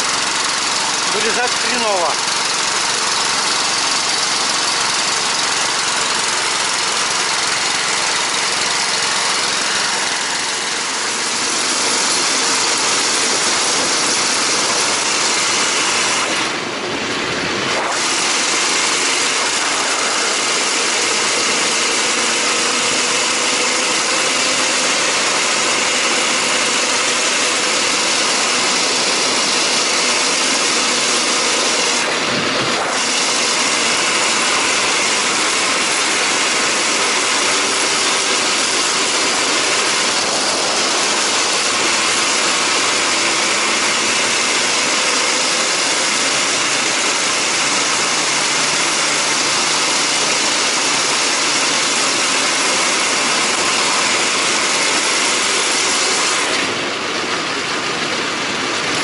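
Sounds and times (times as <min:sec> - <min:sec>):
small engine running at low throttle: 0:00.0 - 0:59.0.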